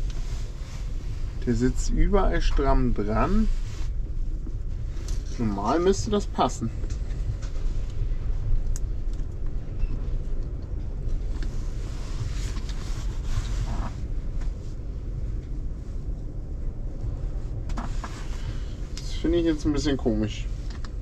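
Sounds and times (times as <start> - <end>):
tractor cab rumble: 0.0 - 21.0.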